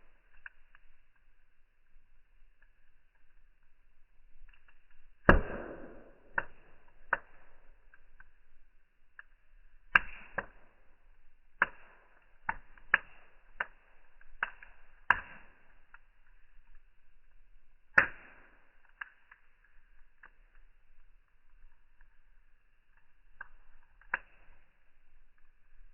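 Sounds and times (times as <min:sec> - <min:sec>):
fire crackling and popping: 0:00.0 - 0:25.9.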